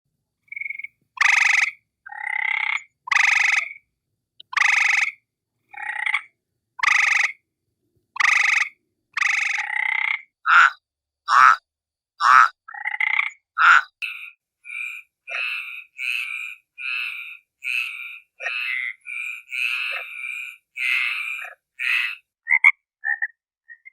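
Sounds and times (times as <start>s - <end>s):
frog croaks: 0.5s - 7.4s, 8.2s - 23.9s.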